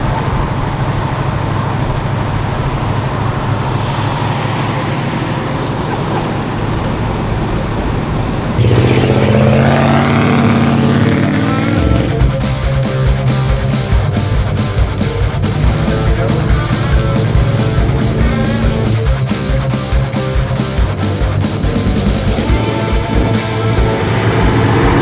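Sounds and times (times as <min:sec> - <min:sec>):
car engine running: 0:00.0 - 0:25.0
louder engine revving: 0:01.7 - 0:25.0.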